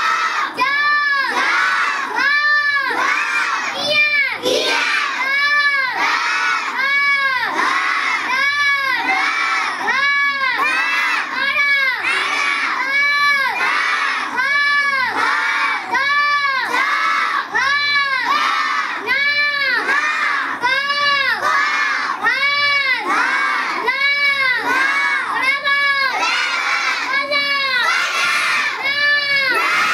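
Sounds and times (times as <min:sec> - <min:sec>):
children chanting in unison: 0:00.0 - 0:29.9.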